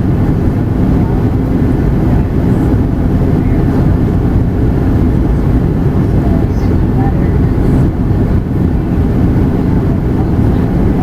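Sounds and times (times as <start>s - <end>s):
airplane cabin roar: 0.0s - 11.0s
faint steady hum: 0.0s - 11.0s.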